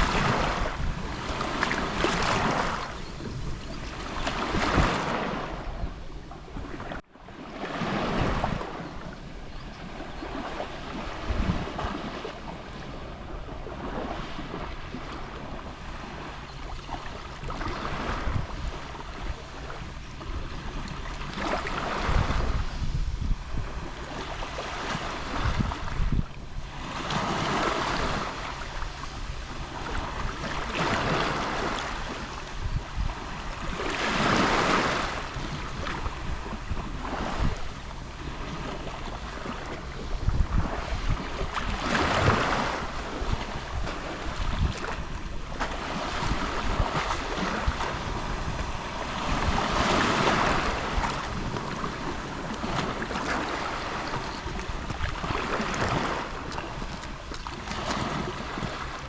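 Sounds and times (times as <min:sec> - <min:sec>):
sea waves lapping on shore: 0:00.0 - 0:59.0.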